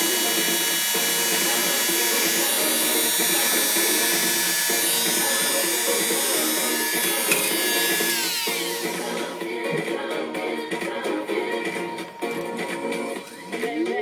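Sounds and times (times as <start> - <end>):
buzzy electronic music: 0.0 - 14.0.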